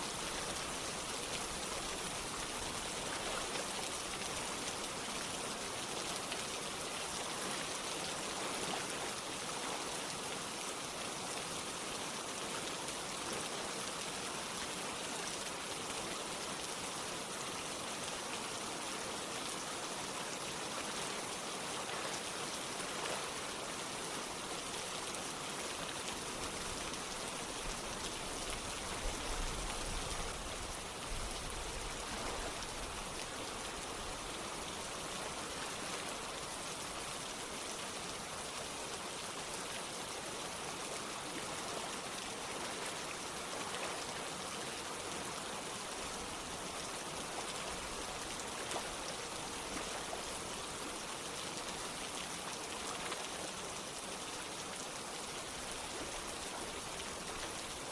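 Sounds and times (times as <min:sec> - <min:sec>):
rain falling: 0:00.0 - 0:57.9
running water: 0:00.0 - 0:57.9.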